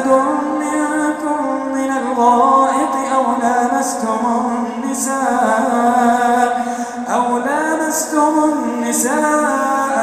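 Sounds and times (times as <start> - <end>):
man chanting recitation: 0.0 - 10.0.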